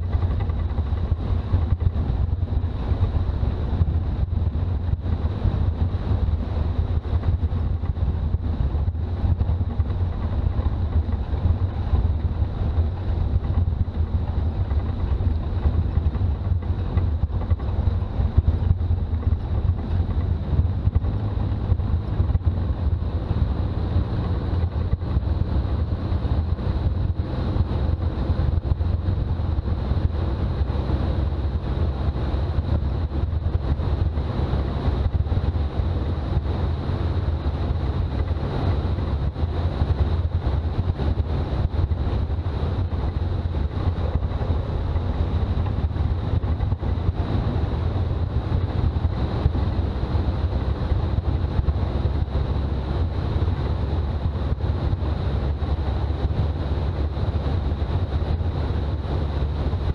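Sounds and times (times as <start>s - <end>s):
diesel engine rumble while driving: 0.0s - 59.9s.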